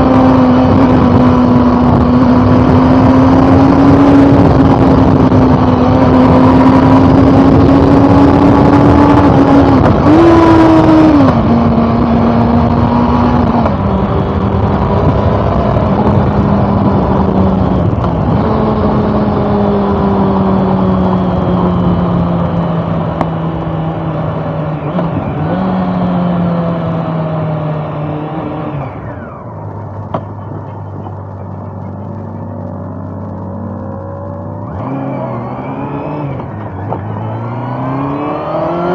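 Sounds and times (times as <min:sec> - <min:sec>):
motorcycle engine shifting gears: 0:00.0 - 0:38.9
wind noise: 0:00.0 - 0:38.9.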